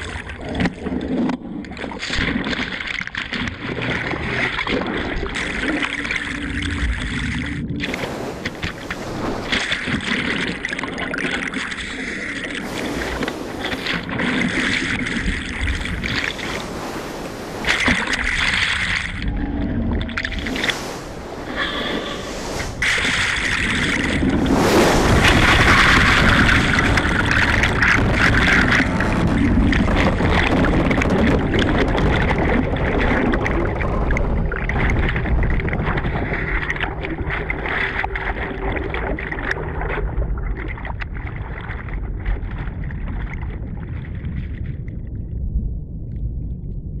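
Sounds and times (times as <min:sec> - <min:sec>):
small water splashes: 0:00.0 - 0:19.3, 0:19.9 - 0:44.9
sea water and spray rushing: 0:00.0 - 0:46.2
steady low rumble: 0:05.3 - 0:11.2, 0:12.2 - 0:47.0.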